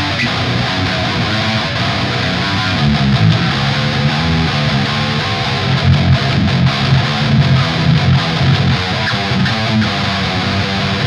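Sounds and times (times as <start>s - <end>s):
distorted electric guitar riff: 0.0s - 11.0s.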